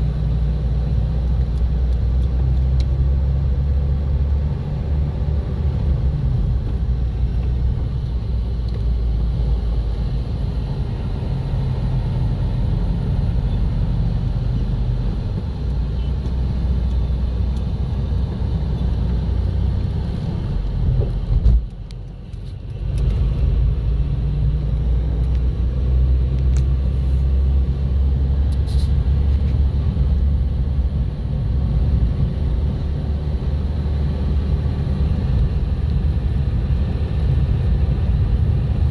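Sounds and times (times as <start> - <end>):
road vehicle rumble: 0.0 - 38.9.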